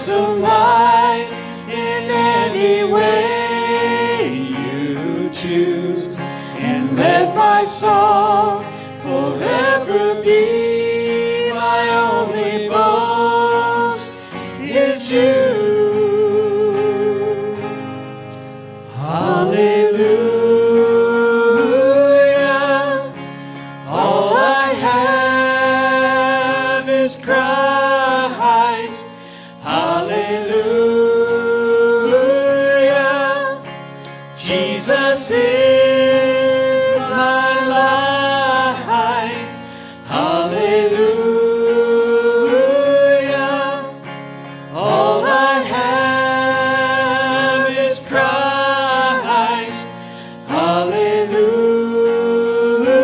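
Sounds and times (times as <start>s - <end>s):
voices singing gospel song: 0.0s - 17.9s, 18.7s - 53.0s
electric guitar: 0.0s - 53.0s.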